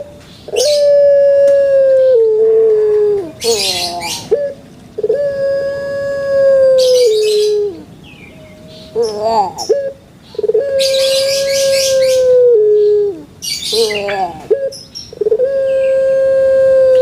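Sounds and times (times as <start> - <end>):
bird calling: 0.0 - 17.0.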